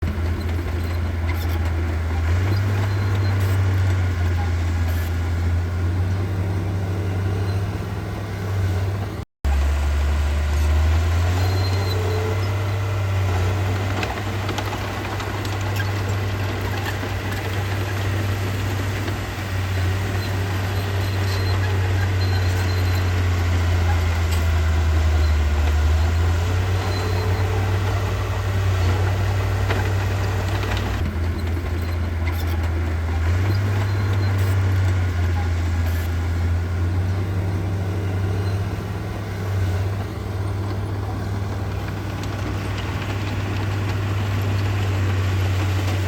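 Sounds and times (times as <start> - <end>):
diesel engine humming: 0.0 - 46.0.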